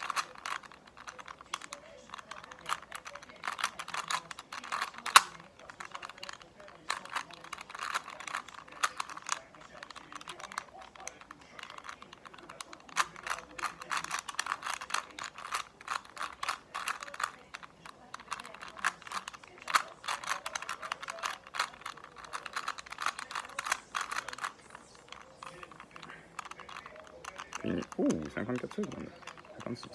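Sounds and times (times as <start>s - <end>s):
puzzle cube clicking: 0.0s - 29.9s.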